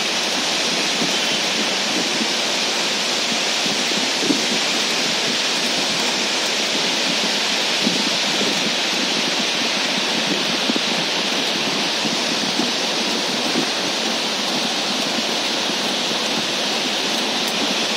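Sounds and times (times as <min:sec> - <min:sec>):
river water rushing: 0:00.0 - 0:17.9.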